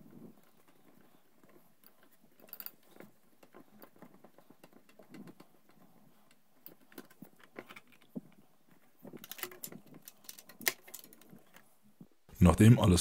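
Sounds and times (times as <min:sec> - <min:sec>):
faint clicks and knocks of tools: 0:00.0 - 0:12.2.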